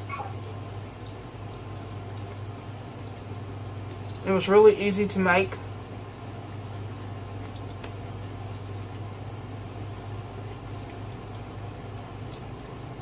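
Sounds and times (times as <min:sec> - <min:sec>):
kitchen room hum: 0:00.0 - 0:13.0.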